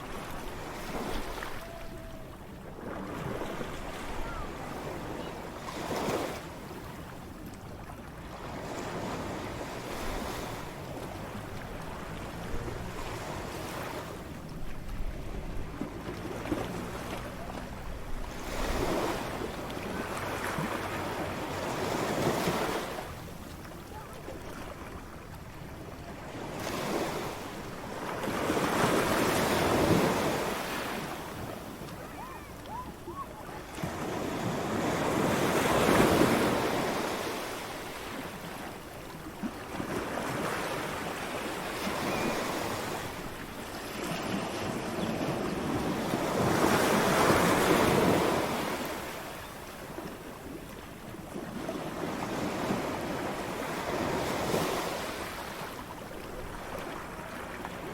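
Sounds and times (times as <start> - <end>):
ocean waves breaking on shore: 0.0 - 57.9.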